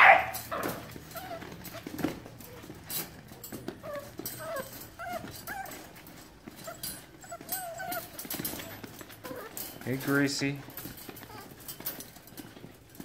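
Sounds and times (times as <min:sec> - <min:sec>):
puppies whimpering: 0:00.0 - 0:12.6.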